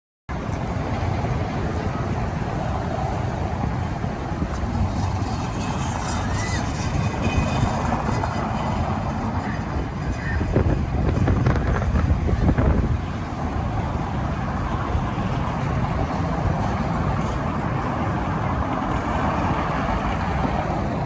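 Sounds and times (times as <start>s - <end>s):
vehicle engine and road rumble: 0.3s - 21.0s.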